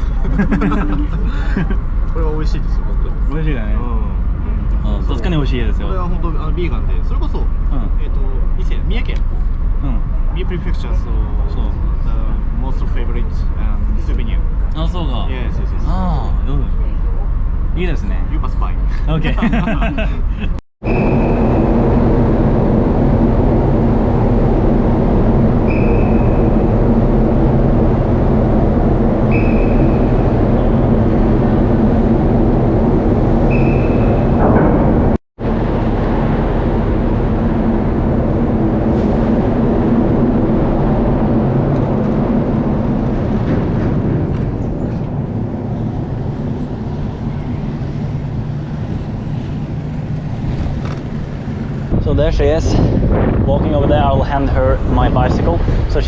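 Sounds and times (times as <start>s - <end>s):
vehicle engine humming: 0.0s - 52.0s.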